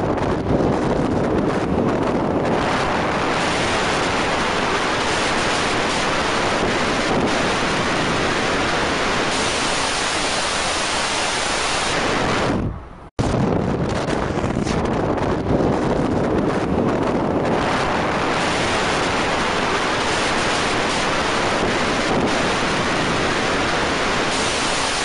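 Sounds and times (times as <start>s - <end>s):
tyre and road noise: 0.0s - 25.0s
wind buffeting microphone: 0.0s - 25.0s.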